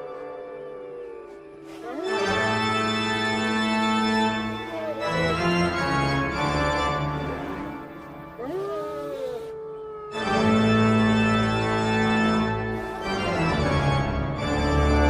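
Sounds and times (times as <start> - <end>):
wolves howling: 0.0 - 14.7
organ chords: 1.8 - 9.2, 10.1 - 15.0.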